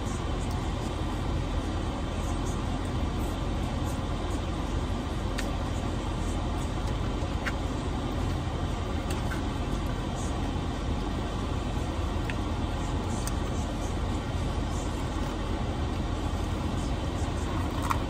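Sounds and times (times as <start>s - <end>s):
low rumble and hiss in car: 0.0s - 18.0s.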